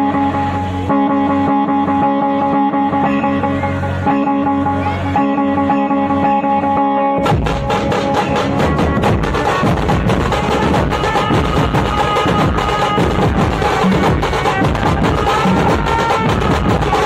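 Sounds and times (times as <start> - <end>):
drums beaten fast: 0.0 - 17.0
high held melody: 0.0 - 17.0.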